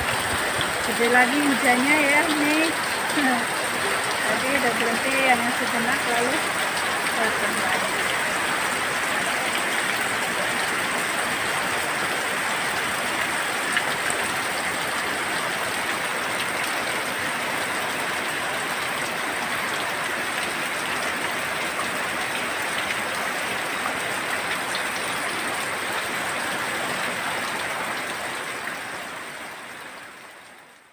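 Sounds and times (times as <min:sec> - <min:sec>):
heavy rain on leaves and roofs: 0:00.0 - 0:30.9.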